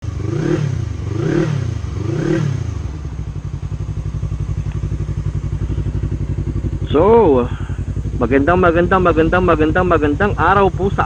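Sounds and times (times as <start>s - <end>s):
motorcycle engine idling: 0.0s - 11.0s
motorcycle engine revving: 0.0s - 11.0s.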